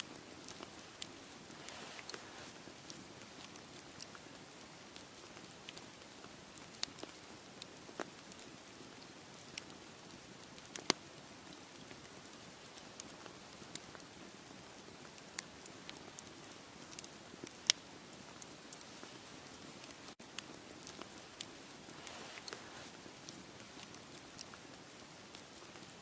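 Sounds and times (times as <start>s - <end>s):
soft steady hiss: 0.0s - 26.0s
campfire pops and snaps: 0.1s - 26.0s.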